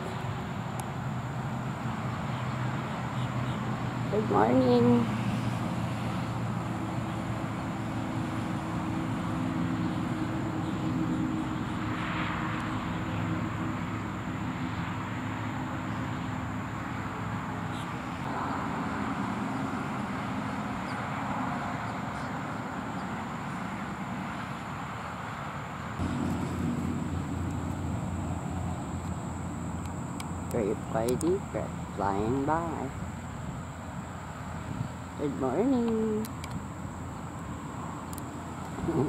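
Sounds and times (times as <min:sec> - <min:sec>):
low engine drone: 0:00.0 - 0:23.7, 0:26.0 - 0:39.0.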